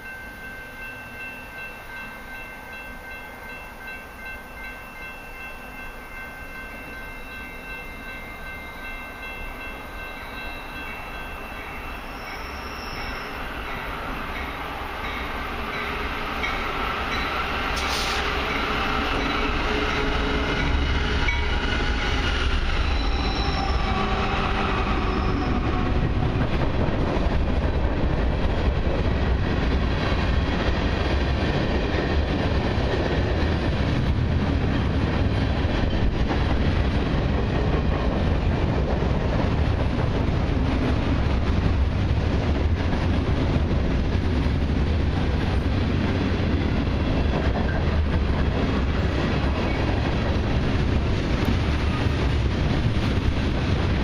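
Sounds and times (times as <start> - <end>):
diesel locomotive engines: 0.0 - 54.0
freight cars rumbling over rails: 8.9 - 54.0.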